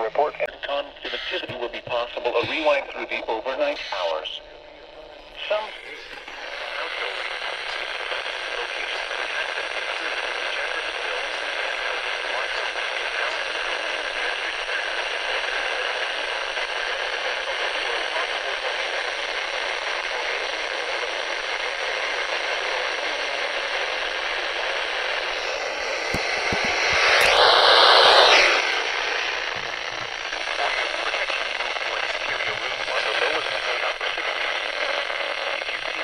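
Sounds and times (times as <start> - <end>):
radio static hiss: 0.0 - 36.0.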